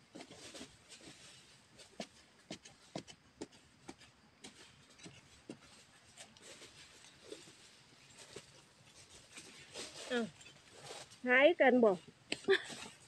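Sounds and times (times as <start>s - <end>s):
scratching in dry soil and leaves: 0.0s - 13.0s.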